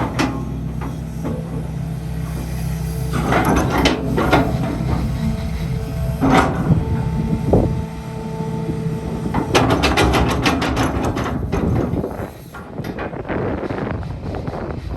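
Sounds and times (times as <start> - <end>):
metallic clanks: 0.0 - 13.2
excavator diesel engine running: 0.0 - 14.9.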